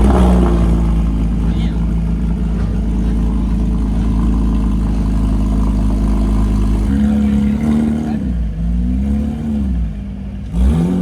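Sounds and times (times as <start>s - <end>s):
car engine running loudly: 0.0s - 11.0s.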